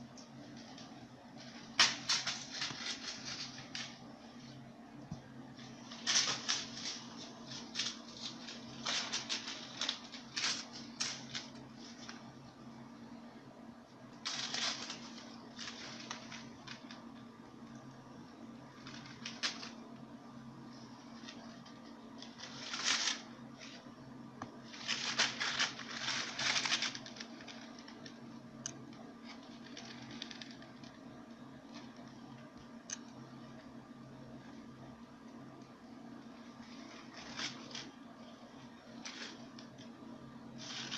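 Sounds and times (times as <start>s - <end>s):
faint low hum: 0.0s - 40.9s
rustling of handled objects: 0.1s - 12.6s, 14.1s - 33.7s, 36.1s - 40.9s.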